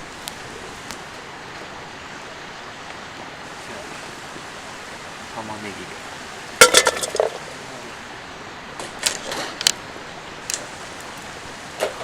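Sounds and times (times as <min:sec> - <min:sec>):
river flowing hiss: 0:00.0 - 0:12.0.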